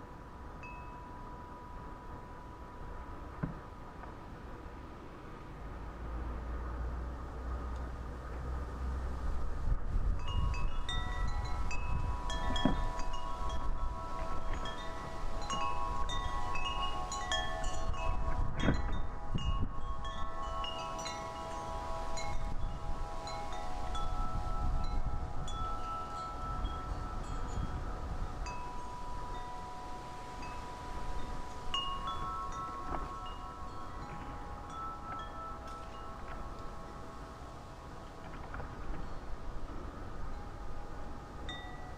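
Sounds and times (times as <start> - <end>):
wind chimes ringing: 0.0 - 3.3, 10.2 - 41.9
wind rumble on microphone: 0.0 - 41.9.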